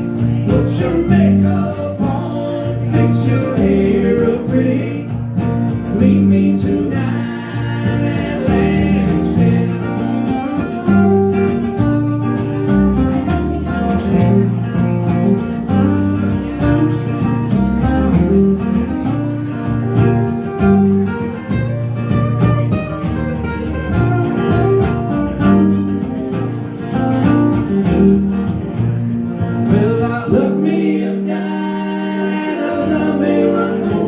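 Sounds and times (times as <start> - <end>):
bass line: 0.0 - 31.2
acoustic guitar strumming: 0.0 - 31.4, 32.5 - 34.0.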